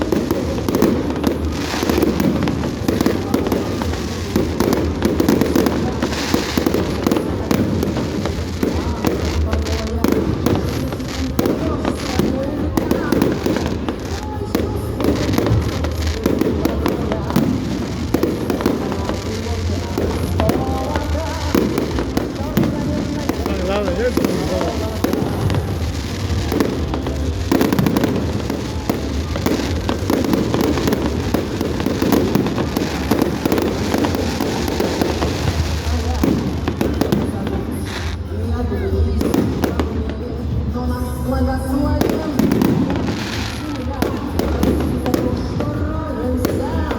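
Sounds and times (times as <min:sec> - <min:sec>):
fireworks bangs and crackles: 0:00.0 - 0:46.9
people's voices: 0:00.0 - 0:46.9.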